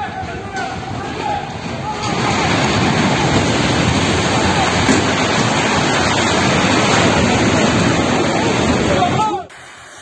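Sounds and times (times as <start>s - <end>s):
avalanche rushing: 0.0s - 9.5s.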